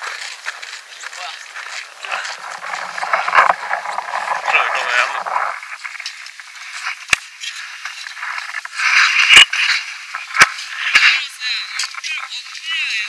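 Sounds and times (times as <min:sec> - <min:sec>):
snow shovels scraping snow: 0:00.0 - 0:11.2.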